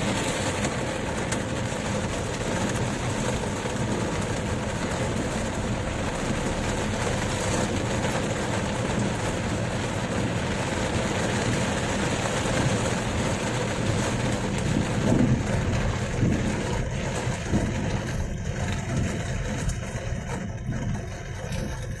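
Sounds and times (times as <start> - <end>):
rain: 0.0 - 22.0
storm wind: 0.0 - 22.0.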